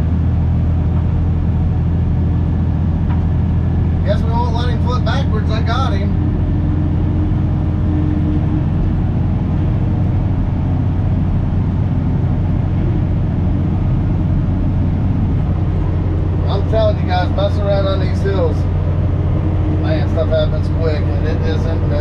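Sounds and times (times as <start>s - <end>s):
bulldozer diesel engine drone: 0.0s - 22.0s.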